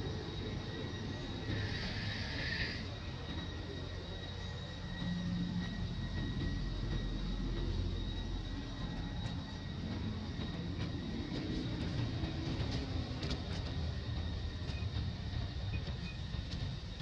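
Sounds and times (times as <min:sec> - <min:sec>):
faint high whine: 0:00.0 - 0:17.0
low rumble: 0:00.0 - 0:17.0.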